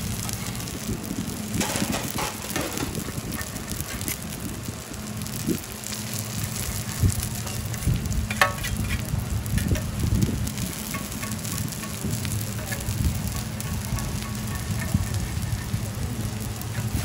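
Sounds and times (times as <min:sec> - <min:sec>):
pancake sizzling in oil: 0:00.0 - 0:17.0.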